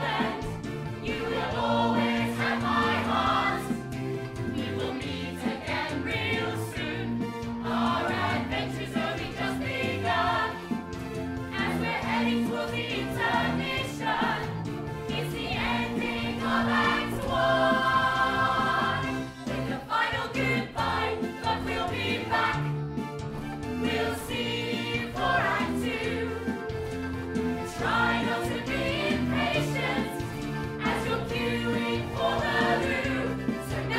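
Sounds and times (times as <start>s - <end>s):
ensemble singing in chorus: 0.0s - 33.9s.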